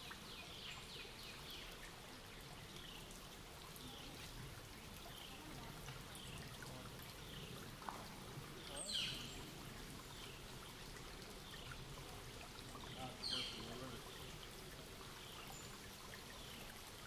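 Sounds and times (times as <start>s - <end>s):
creek trickling over rocks: 0.0s - 17.0s.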